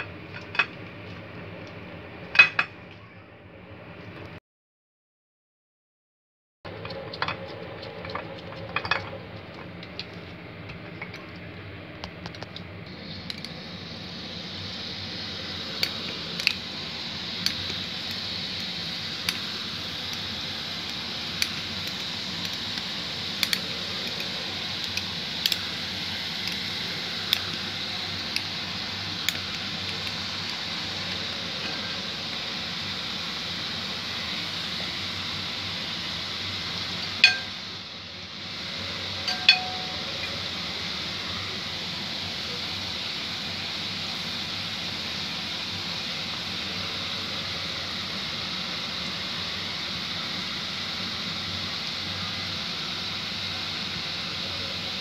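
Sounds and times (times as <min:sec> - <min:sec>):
dough deep-frying in hot oil: 0:06.7 - 0:55.0.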